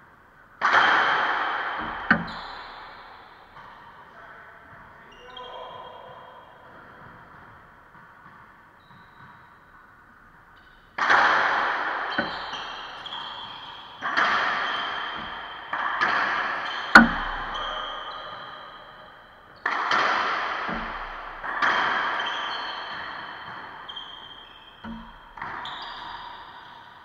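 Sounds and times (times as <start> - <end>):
racquetball hits echoing: 0.5 - 27.0.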